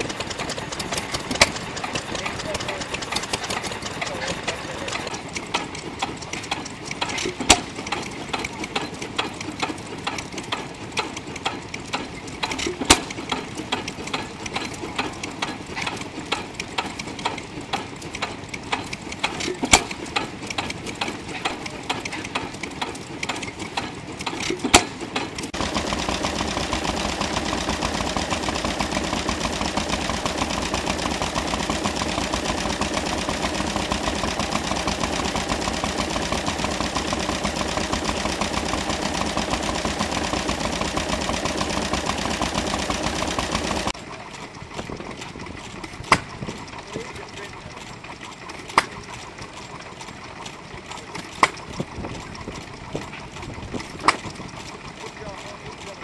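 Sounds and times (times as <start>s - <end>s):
small engine running: 0.0s - 56.0s
stationary engine clicking: 0.0s - 56.0s.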